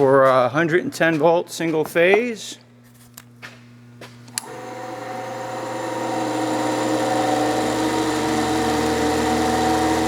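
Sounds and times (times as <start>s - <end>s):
spindle motor hum and whine: 1.5s - 10.0s.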